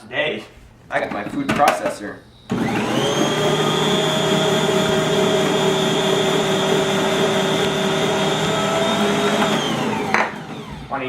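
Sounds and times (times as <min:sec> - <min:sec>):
food processor whining: 0:01.1 - 0:11.0.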